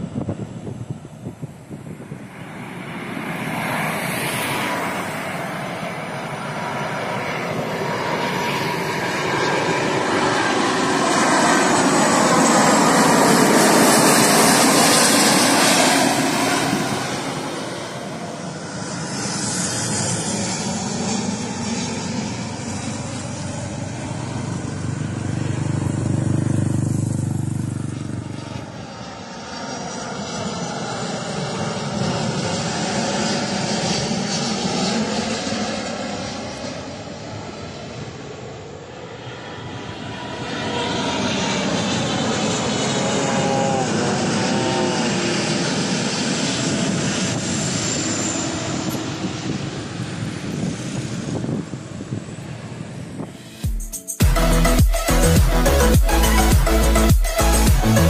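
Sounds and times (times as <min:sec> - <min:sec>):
jet engines roaring overhead: 0:00.0 - 0:53.6.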